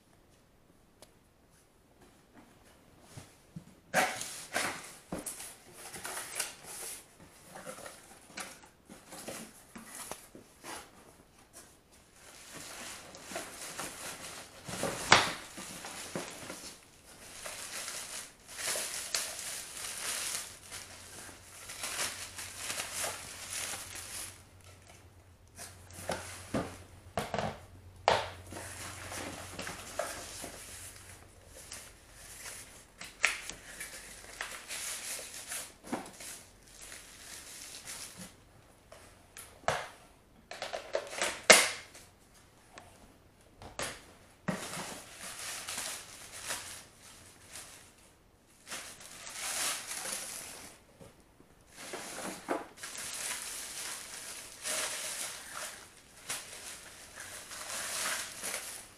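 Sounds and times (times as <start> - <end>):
cardboard and plastic rustling: 2.0 - 42.7, 43.7 - 58.9.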